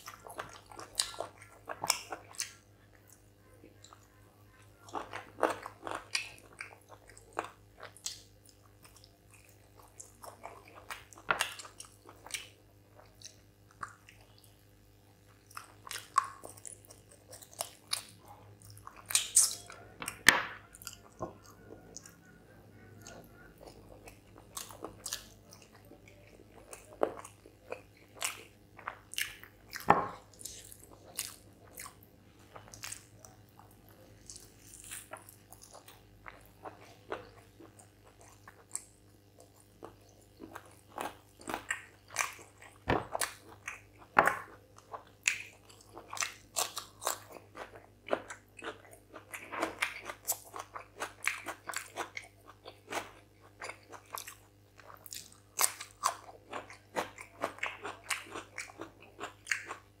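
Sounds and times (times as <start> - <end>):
chewing and biting food: 0.0 - 14.5, 15.2 - 60.0
faint steady hum: 0.0 - 60.0.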